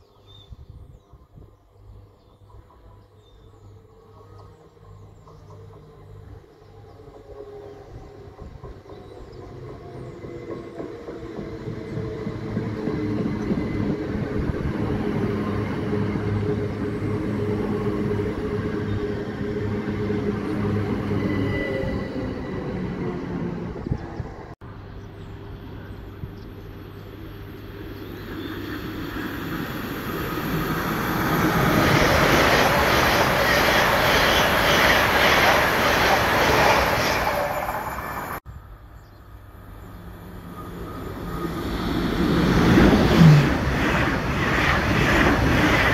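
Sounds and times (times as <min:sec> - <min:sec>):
train drawing in humming: 0:00.0 - 0:45.9
train approaching: 0:01.8 - 0:45.9.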